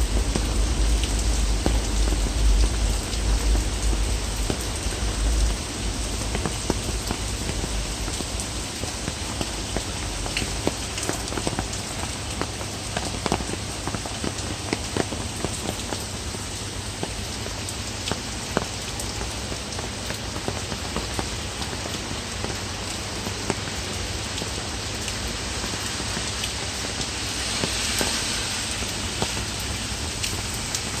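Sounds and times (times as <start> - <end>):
heavy rain pouring: 0.0 - 31.0
raindrops splattering on hard surfaces: 0.0 - 31.0.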